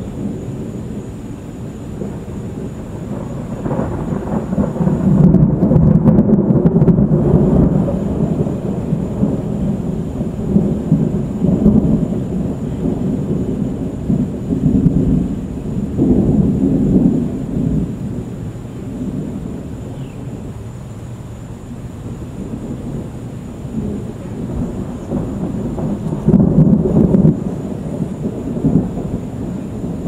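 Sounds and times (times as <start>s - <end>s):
rolling thunder: 0.0s - 30.0s.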